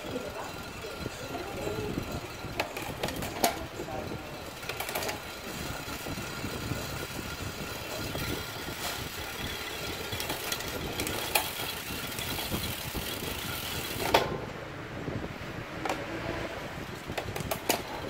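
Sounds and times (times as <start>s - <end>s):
stand rattling against spokes: 0.0s - 14.6s, 16.8s - 18.0s
bike chain whirring: 0.0s - 18.0s.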